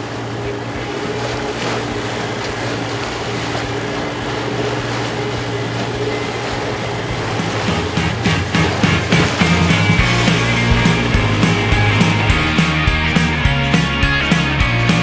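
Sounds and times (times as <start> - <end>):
outboard motor humming: 0.0 - 15.0
water rushing off hull: 0.0 - 15.0.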